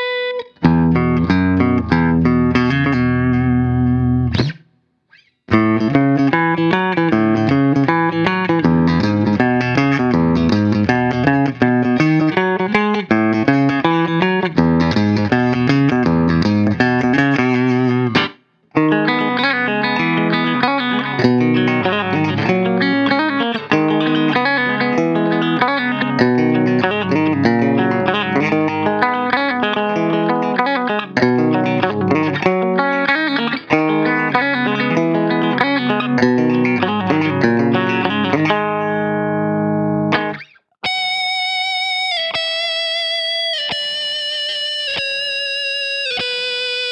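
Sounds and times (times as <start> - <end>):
electric guitar chords and riffs: 0.0 - 46.9.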